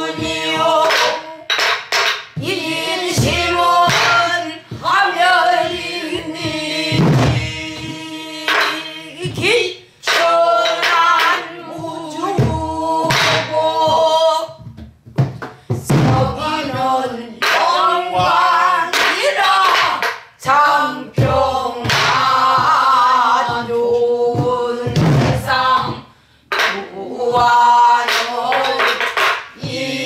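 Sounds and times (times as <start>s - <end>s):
group of voices singing: 0.0s - 14.6s, 15.8s - 30.0s.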